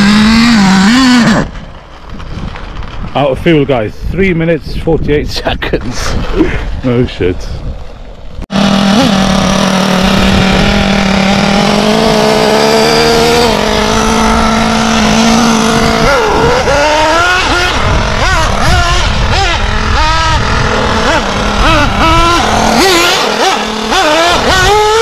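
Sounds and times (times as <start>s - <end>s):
nitro engine revving: 0.0s - 3.7s, 6.0s - 25.0s.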